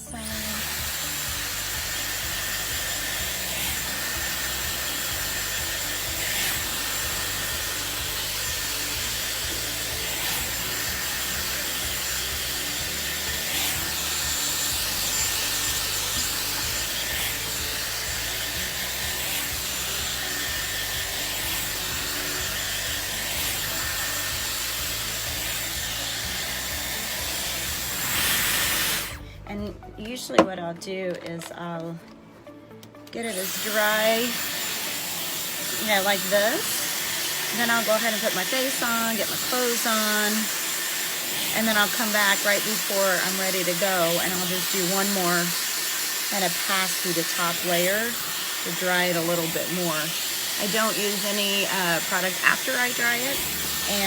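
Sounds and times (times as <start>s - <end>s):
hair styler blowing air: 0.0s - 29.8s, 33.1s - 54.0s
background music: 0.0s - 54.0s.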